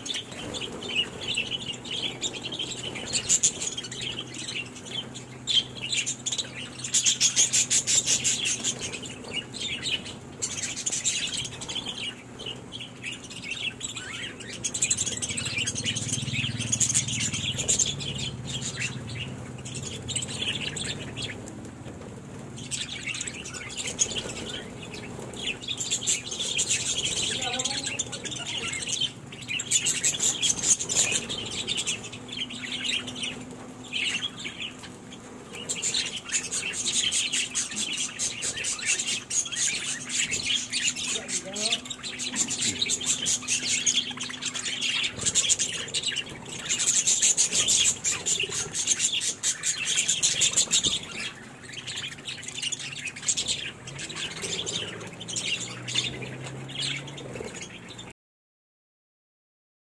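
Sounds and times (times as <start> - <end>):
budgerigars chattering and chirping: 0.0 - 58.1
wing flutters: 0.0 - 58.1.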